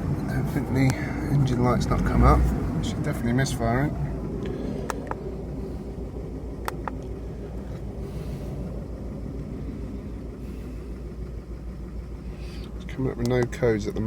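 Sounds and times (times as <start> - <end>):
car engine idling roughly: 0.0 - 14.0.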